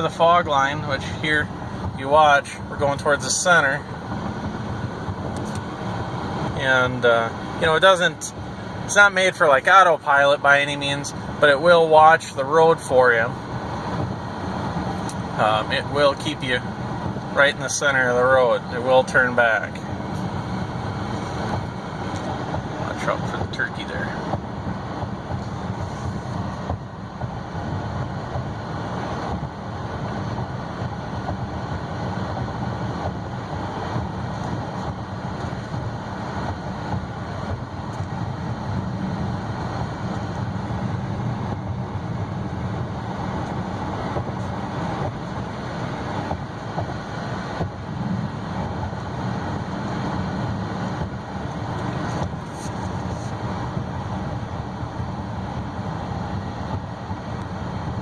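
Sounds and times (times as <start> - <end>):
low engine hum: 0.0 - 58.0
road and tyre noise: 0.0 - 58.0.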